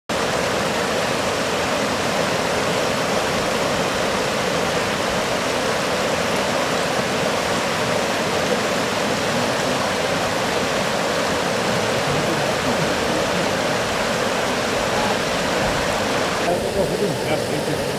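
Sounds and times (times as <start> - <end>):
water rushing over rocks: 0.1 - 17.9.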